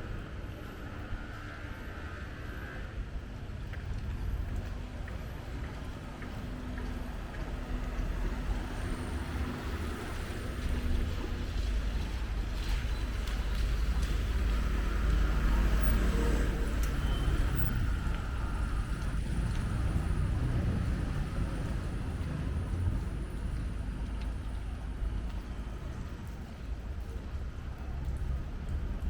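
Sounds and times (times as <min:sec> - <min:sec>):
passing vehicles rumble: 0:00.0 - 0:29.0.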